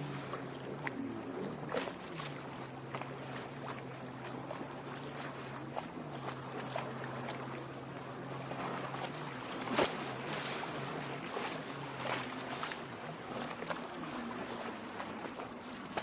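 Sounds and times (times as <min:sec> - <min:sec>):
steady low hum: 0:00.0 - 0:16.0
water lapping against shore: 0:00.0 - 0:16.0.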